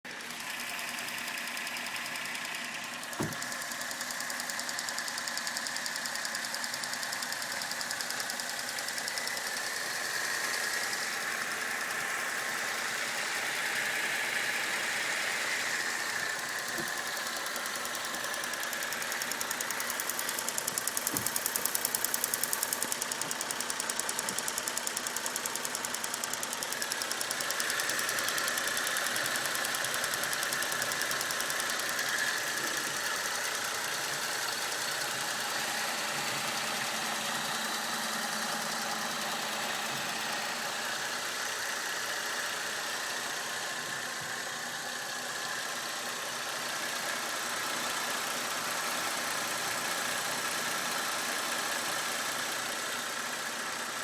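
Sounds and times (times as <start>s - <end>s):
car engine running: 0.1s - 54.0s
rapid engine knocking: 0.1s - 54.0s.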